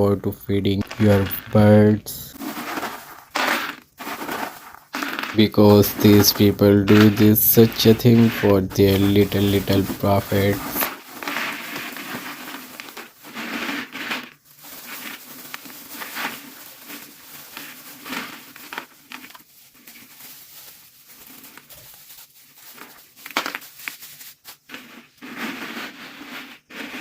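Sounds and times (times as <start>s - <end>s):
crinkling and rustling handling noise: 0.0s - 25.9s.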